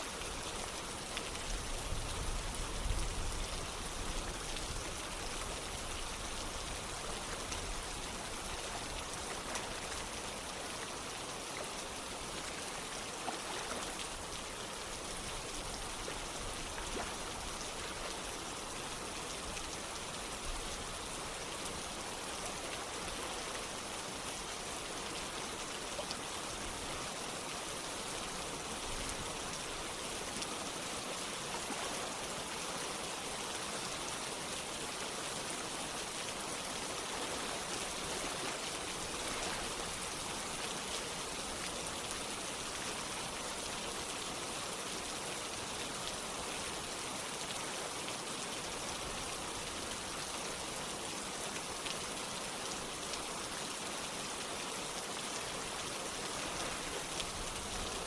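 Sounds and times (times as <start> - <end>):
running water: 0.0 - 58.0
steady rain: 0.0 - 58.0.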